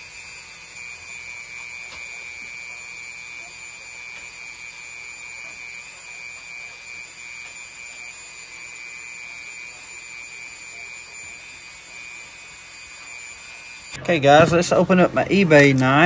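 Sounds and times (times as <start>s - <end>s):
rotary tool whining: 0.0s - 16.0s.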